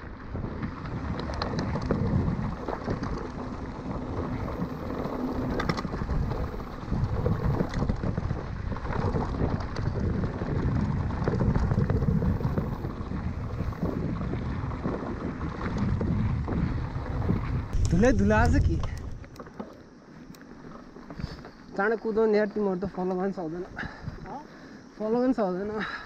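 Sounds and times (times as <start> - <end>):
bike clicks and rattles: 0.0 - 22.1
bike rumbling over gravel: 0.0 - 24.0
wind buffeting microphone: 0.0 - 26.0.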